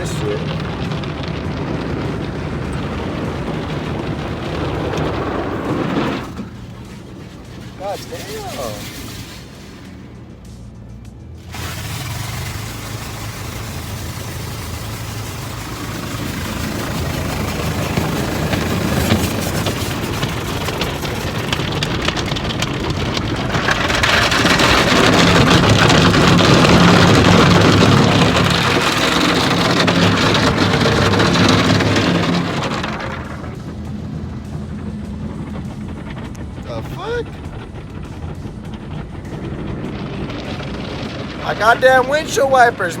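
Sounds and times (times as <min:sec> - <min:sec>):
car wash spraying water: 0:00.0 - 0:10.5, 0:11.3 - 0:43.0
steady low hum: 0:00.0 - 0:43.0.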